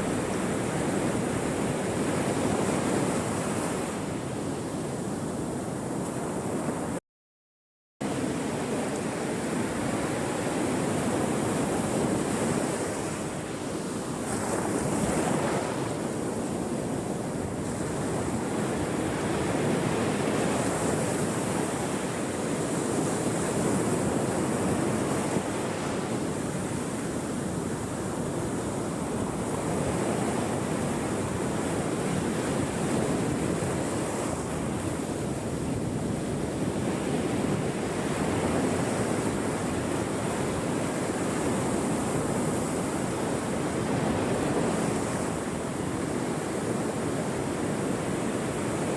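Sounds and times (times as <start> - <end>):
ocean waves breaking: 8.0 - 48.9.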